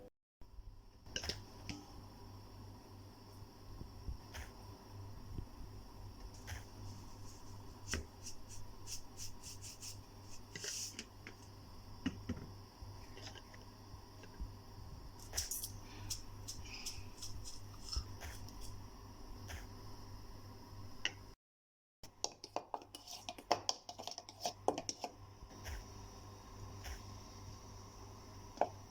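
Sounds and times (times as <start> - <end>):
steady low hum: 0.0 - 21.4, 25.1 - 28.9.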